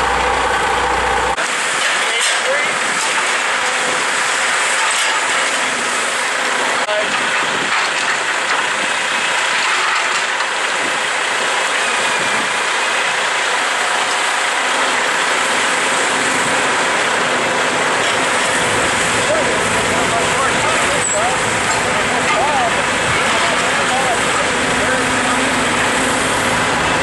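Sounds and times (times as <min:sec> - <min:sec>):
diesel machinery running: 0:00.0 - 0:27.0.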